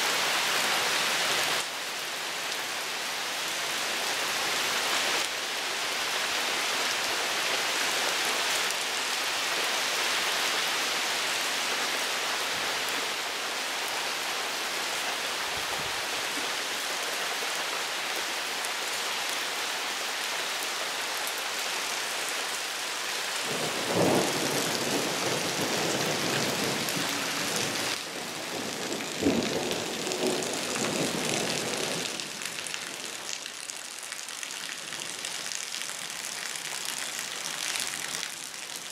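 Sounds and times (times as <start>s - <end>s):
heavy rain on wet ground: 0.0s - 38.9s.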